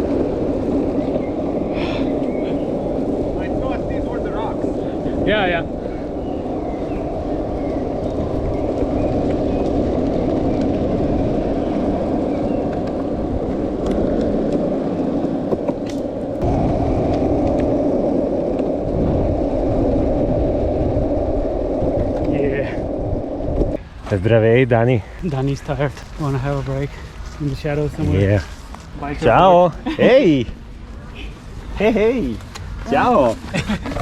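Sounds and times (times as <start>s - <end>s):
longboard wheels rolling on pavement: 0.0s - 34.0s.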